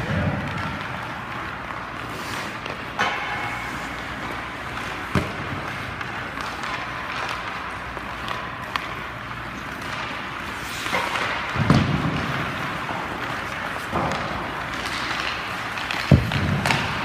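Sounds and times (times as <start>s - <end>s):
hockey stick striking puck: 0.0s - 17.0s
rink background noise: 0.0s - 17.0s.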